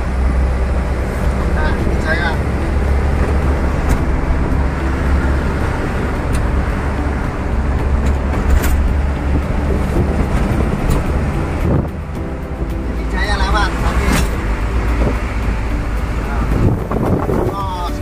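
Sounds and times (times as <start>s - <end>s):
road noise: 0.0s - 18.0s
truck engine rumble: 0.0s - 18.0s.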